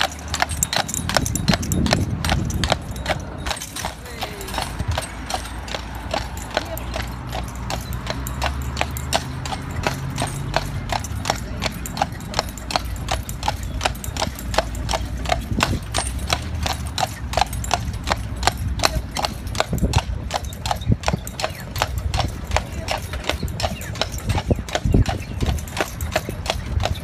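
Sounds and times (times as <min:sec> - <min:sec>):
hooves clip-clopping on asphalt: 0:00.0 - 0:27.0.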